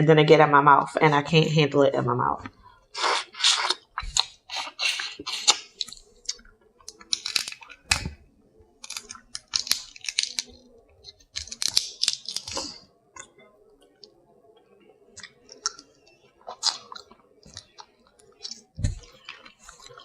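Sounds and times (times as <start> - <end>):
chewing: 2.4 - 20.0
crab shell crunching: 2.9 - 20.0.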